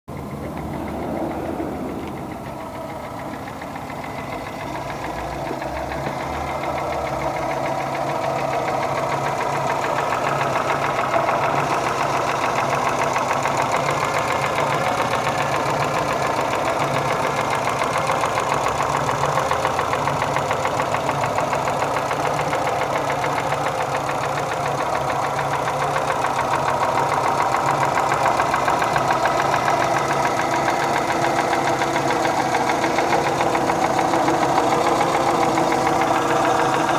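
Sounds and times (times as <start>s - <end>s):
engine knocking: 0.1s - 36.9s.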